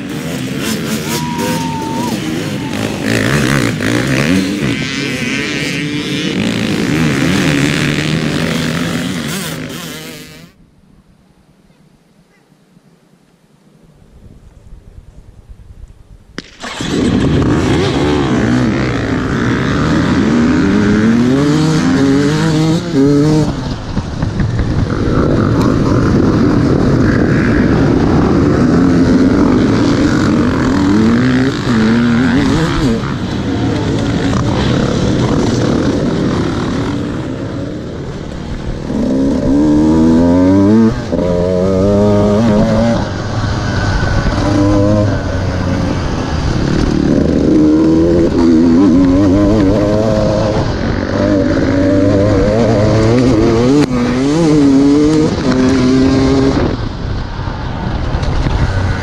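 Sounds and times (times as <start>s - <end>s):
dirt bike engine revving: 0.0s - 10.6s, 16.4s - 57.0s
other motorcycles running: 0.0s - 10.6s, 16.4s - 59.0s.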